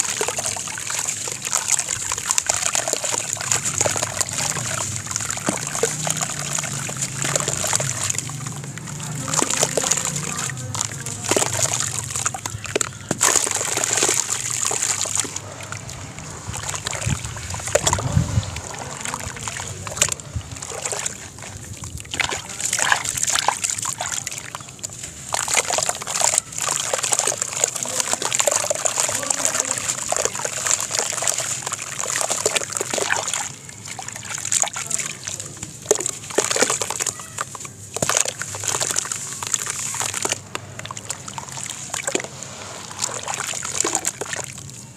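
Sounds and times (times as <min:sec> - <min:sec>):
water sloshing in a basin: 0:00.0 - 0:44.9.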